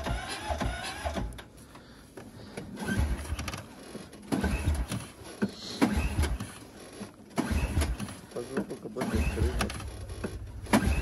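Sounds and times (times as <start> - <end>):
snowmobile engine cranking: 0.0 - 1.9, 2.5 - 11.0.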